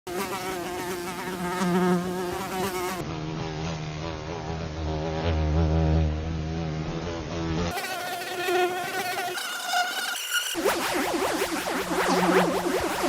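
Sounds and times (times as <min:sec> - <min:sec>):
fly buzzing: 0:00.1 - 0:13.0.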